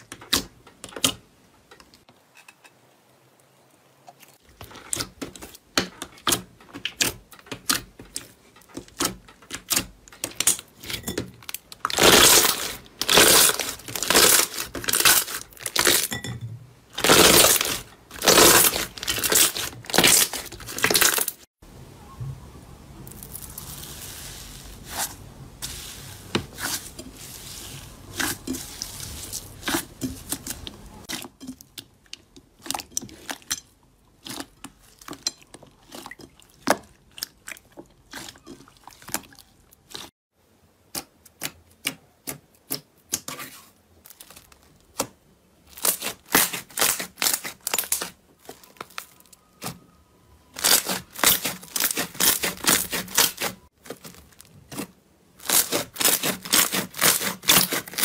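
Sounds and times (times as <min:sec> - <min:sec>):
slime crackling and squelching: 0:04.1 - 0:16.2, 0:16.9 - 0:21.5, 0:23.0 - 0:40.2, 0:41.4 - 0:49.9, 0:50.5 - 0:58.0.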